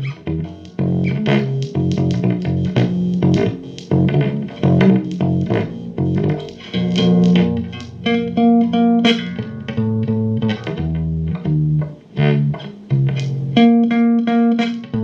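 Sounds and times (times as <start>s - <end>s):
guitar plucked notes and chords: 0.0s - 15.0s.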